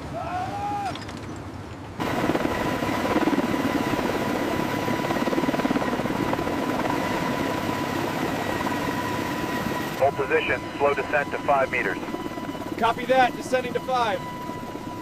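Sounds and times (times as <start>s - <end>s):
helicopter engine whine: 2.0s - 15.0s
helicopter rotor chopping: 2.0s - 15.0s.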